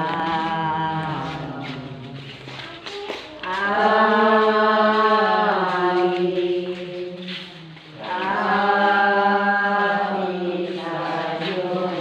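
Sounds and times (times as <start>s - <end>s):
voices chanting a hymn: 0.0s - 12.0s.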